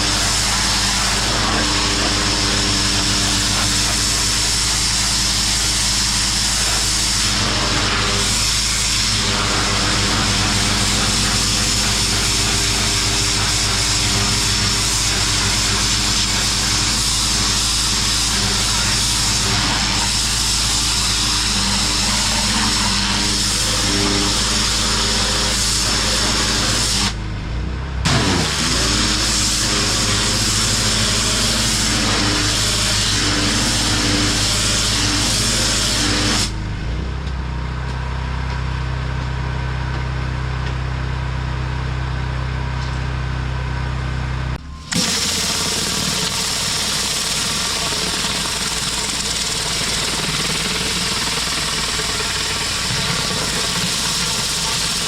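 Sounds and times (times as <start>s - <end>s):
spray hissing against concrete: 0.0s - 27.2s, 28.2s - 36.5s, 44.9s - 55.0s
pressure washer engine running: 0.0s - 55.0s.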